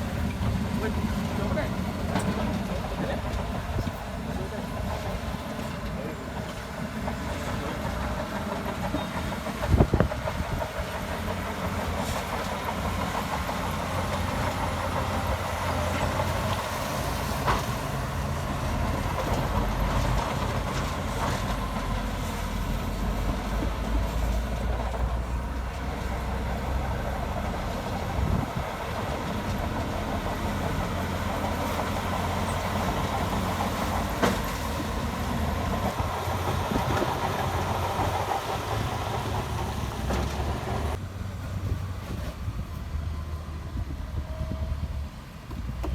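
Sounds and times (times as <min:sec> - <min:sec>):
steel tracks clattering: 0:00.0 - 0:42.6
bulldozer diesel engine running: 0:00.0 - 0:45.9.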